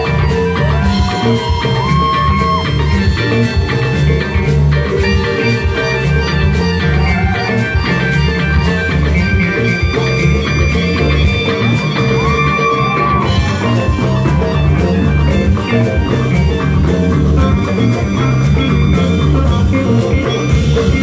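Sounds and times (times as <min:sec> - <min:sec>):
bending guitar lead notes: 0:00.0 - 0:21.0
live rock band playing: 0:00.0 - 0:21.0.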